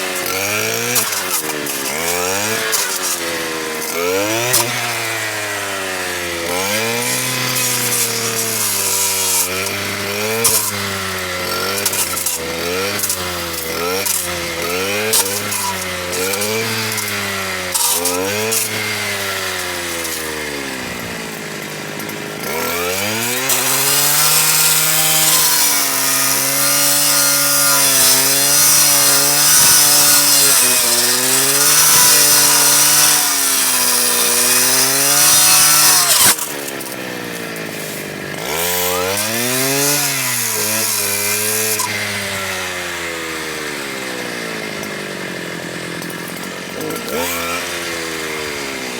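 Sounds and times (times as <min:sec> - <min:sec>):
power saw revving and cutting wood: 0:00.0 - 0:48.9.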